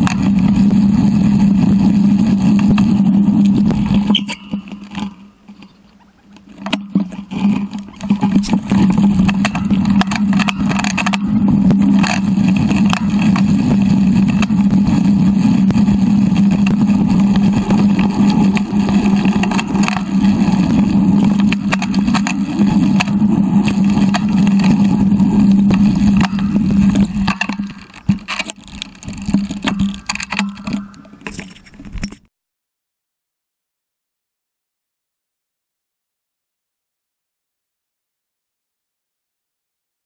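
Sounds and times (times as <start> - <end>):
tyres rumbling on gravel track: 0.0 - 32.1
steady low hum: 0.0 - 32.2
wind: 0.0 - 32.3.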